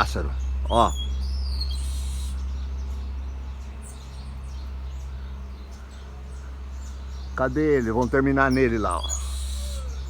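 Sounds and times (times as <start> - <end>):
steady low rumble: 0.0 - 9.0
birds chirping: 0.0 - 10.0.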